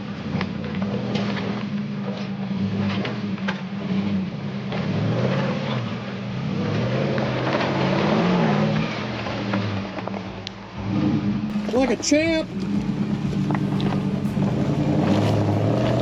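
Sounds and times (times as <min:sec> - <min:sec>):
off-road engine revving: 0:00.0 - 0:16.0.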